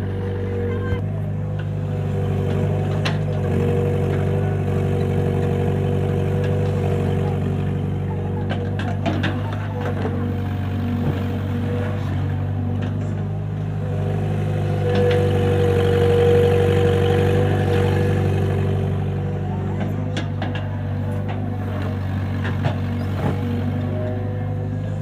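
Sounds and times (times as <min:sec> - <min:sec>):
engine whine: 0:00.0 - 0:25.0
excavator engine running: 0:00.0 - 0:25.0.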